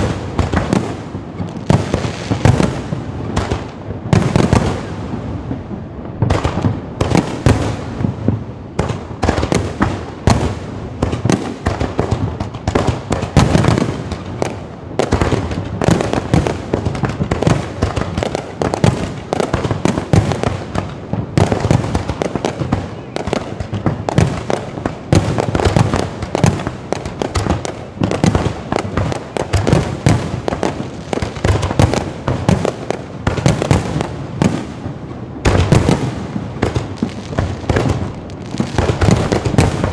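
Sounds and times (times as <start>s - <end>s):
firecrackers popping: 0.0s - 39.9s.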